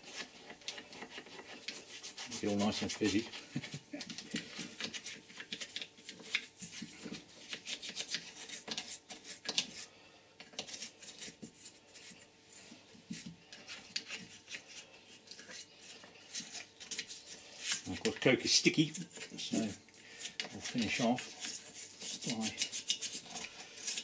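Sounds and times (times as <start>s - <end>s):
brush scrubbing metal: 0.0s - 24.0s.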